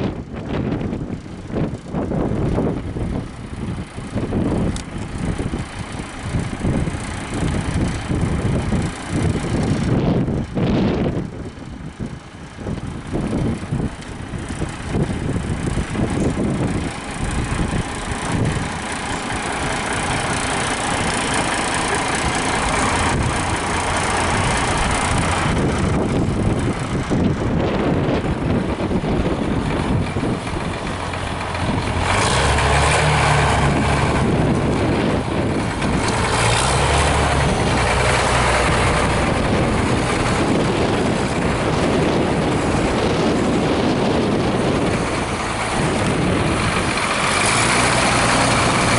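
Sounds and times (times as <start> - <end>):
gusty wind noise: 0.0 - 48.9
truck engine running: 0.0 - 48.9.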